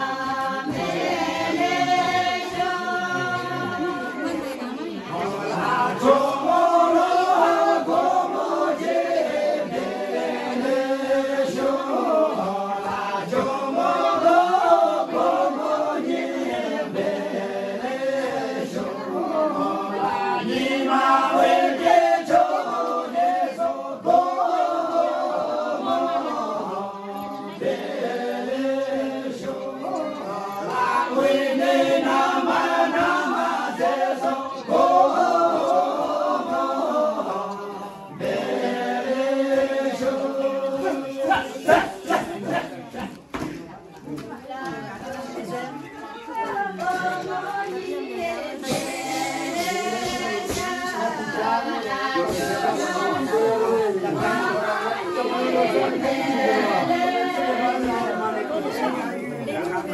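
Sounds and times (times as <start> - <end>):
group chanting: 0.0 - 43.7, 44.3 - 59.9.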